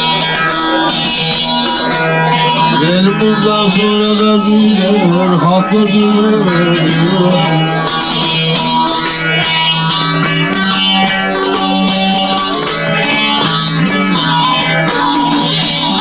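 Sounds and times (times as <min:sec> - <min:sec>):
plucked long-necked lute melody: 0:00.0 - 0:16.0.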